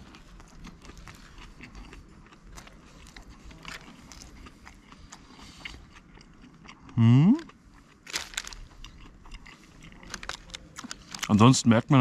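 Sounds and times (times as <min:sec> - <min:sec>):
person chewing crispy food: 0:00.0 - 0:12.0.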